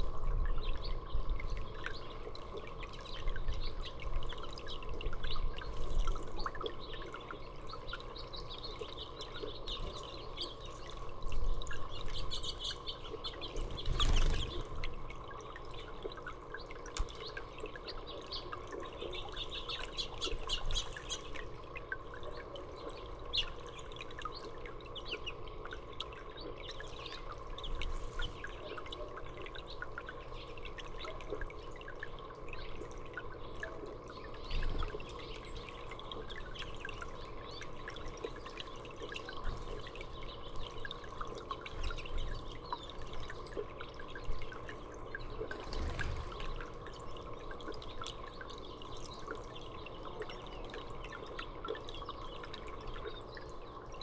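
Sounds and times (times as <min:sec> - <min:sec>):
water trickling and dripping: 0:00.0 - 0:54.0
songbirds chirping: 0:00.4 - 0:54.0.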